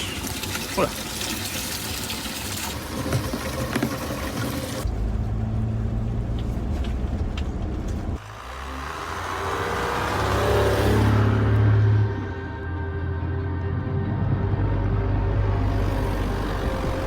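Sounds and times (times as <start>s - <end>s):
car engine running and revving: 3.1s - 17.0s.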